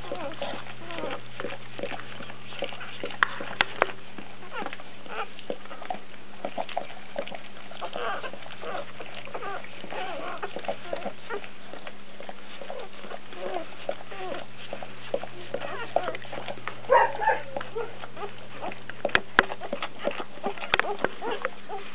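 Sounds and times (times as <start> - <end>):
puppies squeaking and whimpering: 0.0 - 21.9.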